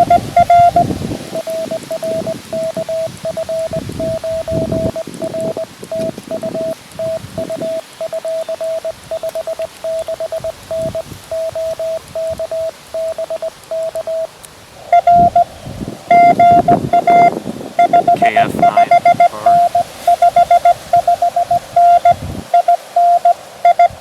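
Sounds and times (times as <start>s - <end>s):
morse code tones: 0.0s - 14.3s, 14.9s - 15.5s, 16.1s - 24.0s
wind rumbling on microphone: 0.0s - 22.6s.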